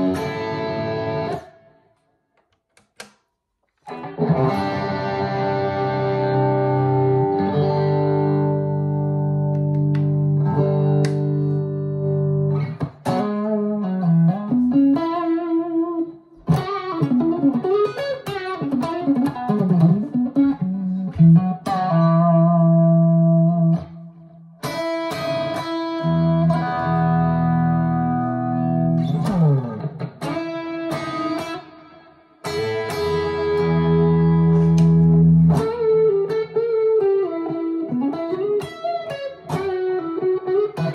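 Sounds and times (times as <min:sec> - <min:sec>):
electric guitar chords: 0:00.0 - 0:01.9, 0:03.8 - 0:40.9
electric guitar lead lines: 0:00.0 - 0:01.9, 0:03.8 - 0:40.9
guitar descending slide: 0:03.8 - 0:23.8, 0:24.6 - 0:40.9.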